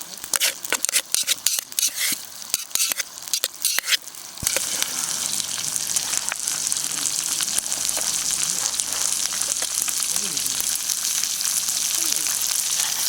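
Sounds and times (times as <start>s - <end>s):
campfire crackling and popping: 0.0s - 13.0s
steak sizzling on hot stone: 0.0s - 13.0s.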